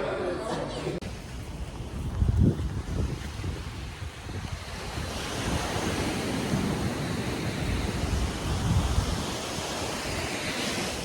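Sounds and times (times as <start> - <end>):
ocean waves on beach: 1.0 - 11.0
wind on microphone: 1.0 - 11.0.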